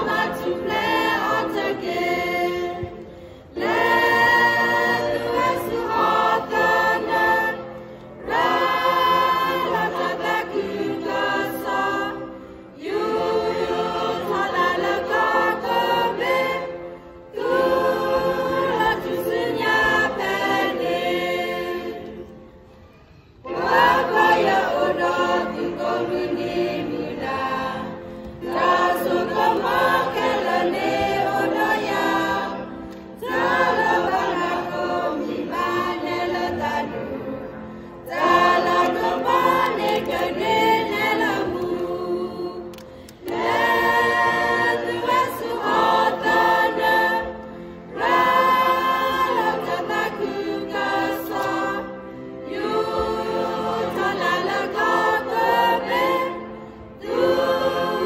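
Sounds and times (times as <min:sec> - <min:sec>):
mixed choir singing unaccompanied: 0:00.0 - 0:58.0.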